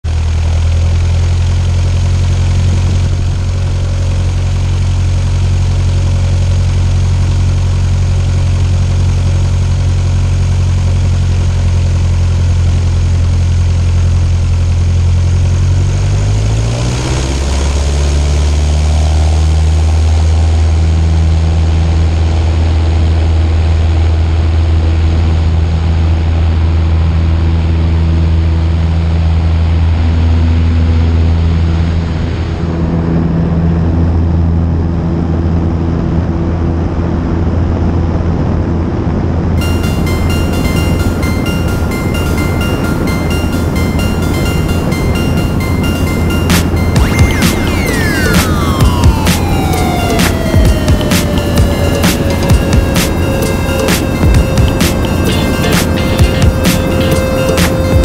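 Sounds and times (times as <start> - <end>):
small aircraft engine and propeller: 0.0 - 58.0.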